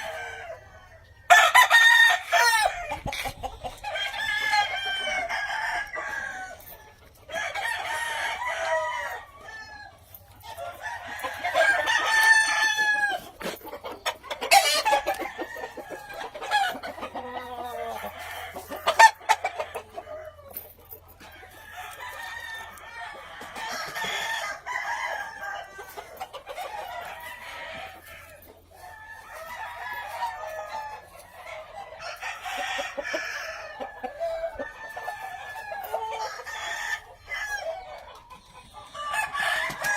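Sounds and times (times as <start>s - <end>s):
hens clucking: 0.0s - 39.9s
roosters crowing: 0.0s - 39.9s.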